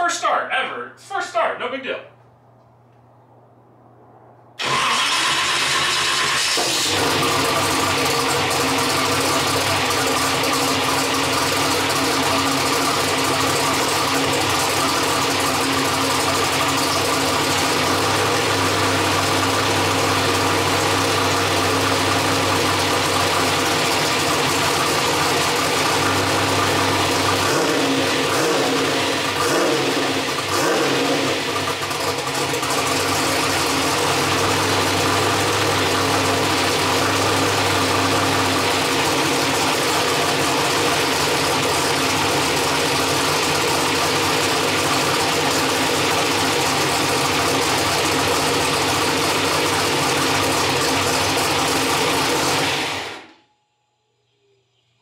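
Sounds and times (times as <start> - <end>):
car engine starting and idling: 2.2 - 53.4.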